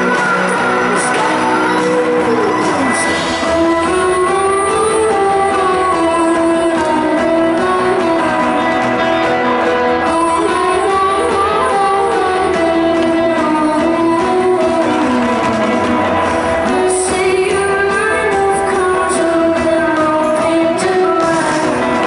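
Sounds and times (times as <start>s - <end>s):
live rock band: 0.0s - 22.0s
person singing: 0.0s - 22.0s.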